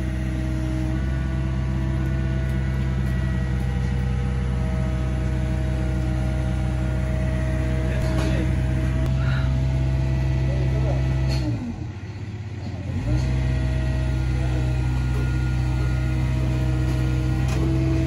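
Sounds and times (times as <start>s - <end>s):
heavy machinery engine droning: 0.0s - 18.0s.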